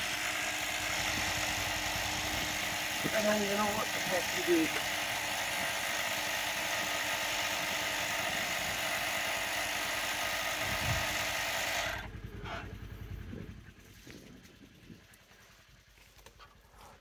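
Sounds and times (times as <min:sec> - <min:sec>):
tire inflator pulsing hiss: 0:00.0 - 0:17.0.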